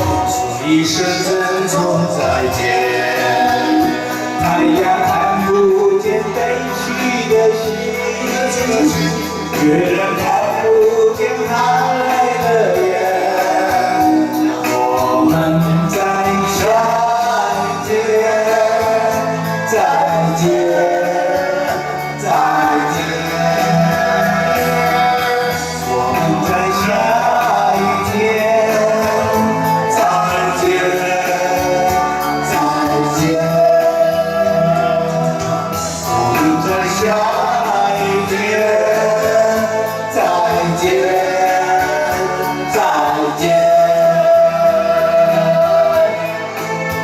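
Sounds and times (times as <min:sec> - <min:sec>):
band accompaniment: 0:00.0 - 0:47.0
person singing: 0:00.0 - 0:47.0.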